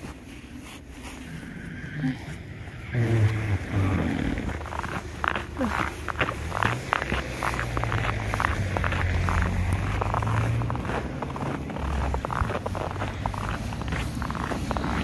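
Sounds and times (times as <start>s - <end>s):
footsteps crunching through snow: 0.0s - 15.0s
low car engine hum: 0.0s - 15.0s
rustling near microphone: 0.0s - 15.0s.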